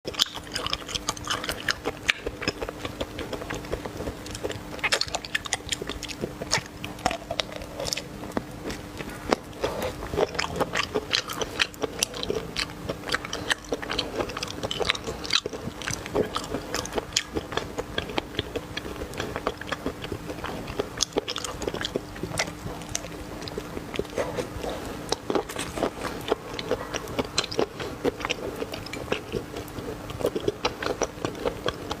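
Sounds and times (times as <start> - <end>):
faint steady hum: 0.1 - 32.0
person chewing crunchy food: 0.1 - 32.0.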